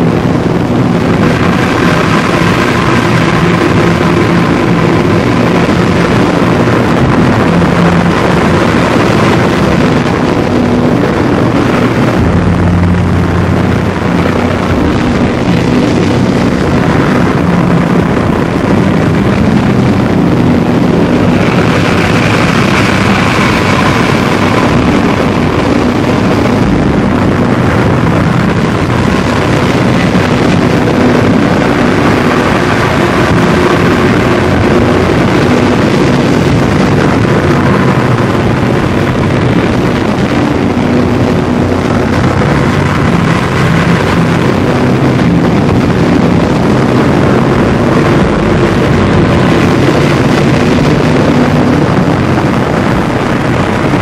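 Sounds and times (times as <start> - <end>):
distorted drone music: 0.0 - 54.0.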